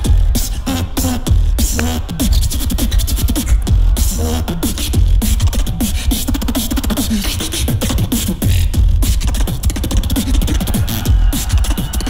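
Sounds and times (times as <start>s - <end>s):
beatboxing into microphone: 0.0s - 12.0s.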